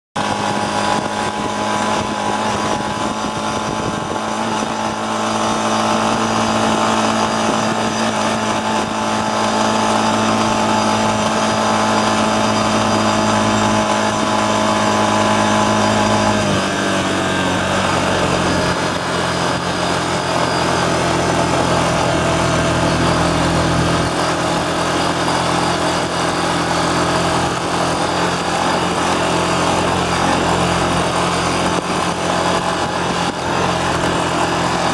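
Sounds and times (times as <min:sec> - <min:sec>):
atv engine running: 0:00.2 - 0:34.9.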